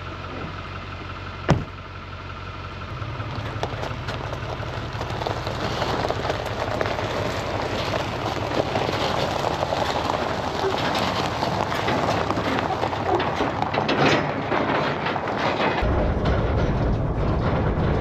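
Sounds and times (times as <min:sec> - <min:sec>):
diesel pickup engine: 0:00.0 - 0:18.0
road and tyre noise: 0:00.0 - 0:18.0.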